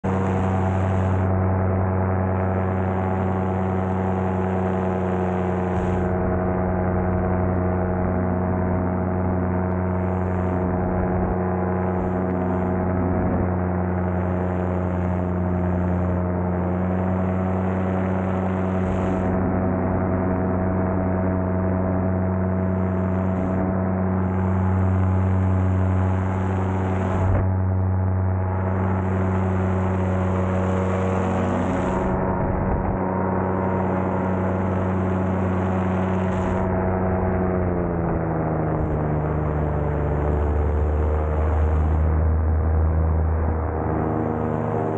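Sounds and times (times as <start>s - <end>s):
paramotor engine drone: 0.0s - 44.9s.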